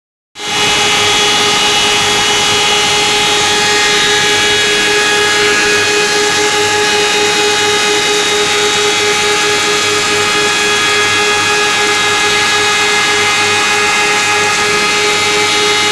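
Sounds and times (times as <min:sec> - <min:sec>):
wood moulder machine running: 0:00.4 - 0:15.9.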